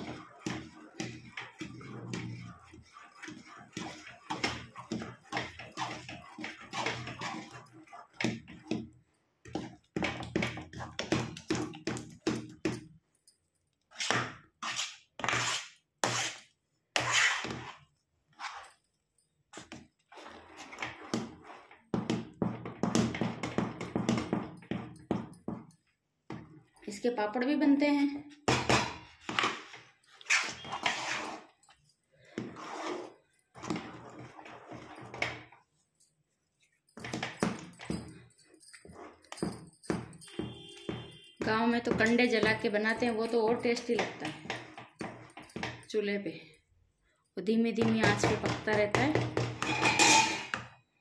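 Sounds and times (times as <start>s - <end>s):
spoon scraping dough in steel pot: 0.0s - 13.1s, 13.8s - 27.5s, 28.2s - 46.0s, 47.7s - 50.8s.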